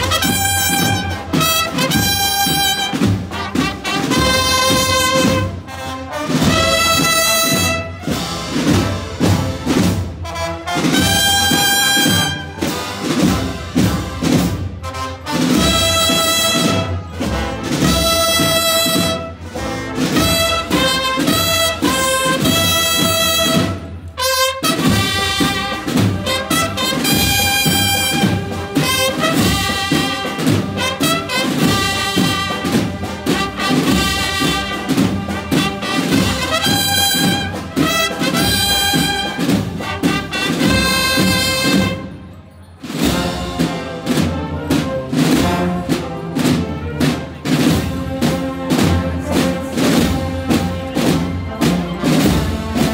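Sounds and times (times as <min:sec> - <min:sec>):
steady drum beat: 0:00.0 - 0:42.1, 0:43.0 - 0:52.9
trumpets playing a march: 0:00.0 - 0:52.9.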